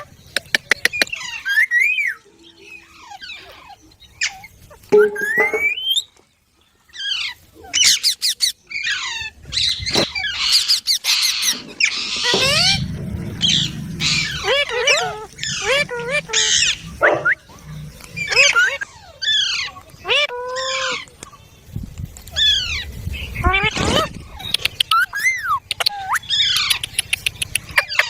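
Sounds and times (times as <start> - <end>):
parrot chirping and squawking: 0.7 - 6.1, 7.0 - 21.1, 22.3 - 28.0.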